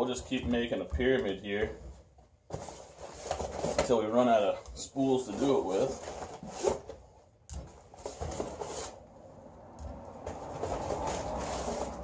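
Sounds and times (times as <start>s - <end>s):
plastic spools rustling and knocking: 0.0s - 9.0s, 9.8s - 12.0s.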